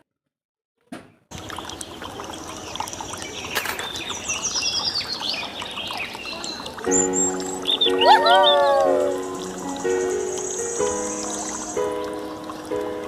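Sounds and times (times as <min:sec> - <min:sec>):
water pouring and trickling: 0:01.3 - 0:13.0
birds chirping: 0:01.6 - 0:12.7.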